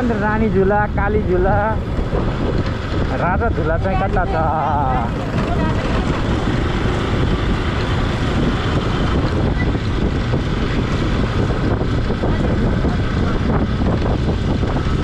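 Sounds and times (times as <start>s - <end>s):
motorcycle engine: 0.0s - 15.0s
road noise: 0.0s - 15.0s
wind rushing over microphone: 0.0s - 15.0s.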